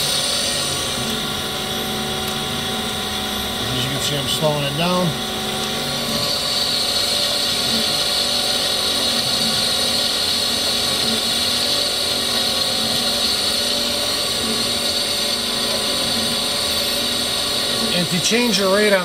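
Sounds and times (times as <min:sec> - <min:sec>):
surface grinder running: 0:00.0 - 0:19.0.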